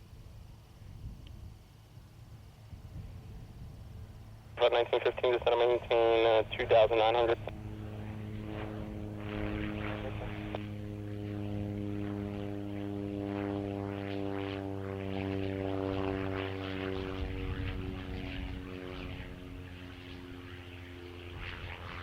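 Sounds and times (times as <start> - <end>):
turboprop engines droning: 0.4 - 22.0.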